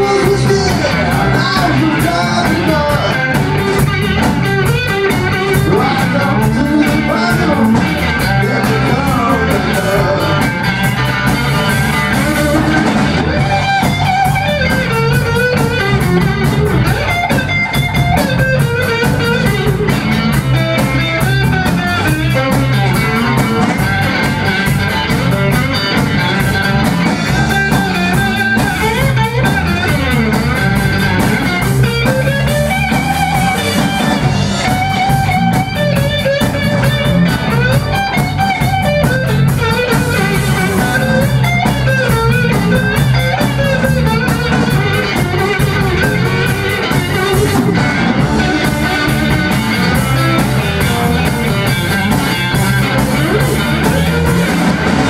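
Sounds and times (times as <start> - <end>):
drum kit: 0.0 - 55.0
electric guitars: 0.0 - 55.0
lead guitar bending notes: 0.0 - 55.0.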